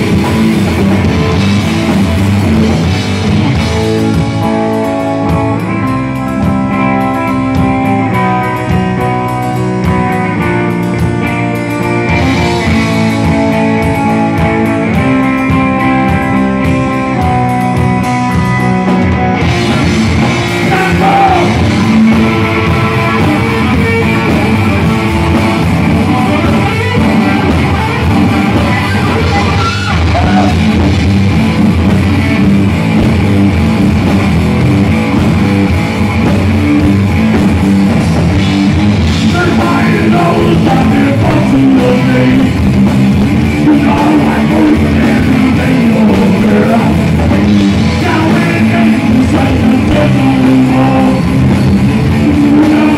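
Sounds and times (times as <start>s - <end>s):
bass guitar: 0.0s - 52.9s
distorted electric guitar: 0.0s - 52.9s
drum kit and cymbals: 0.0s - 52.9s.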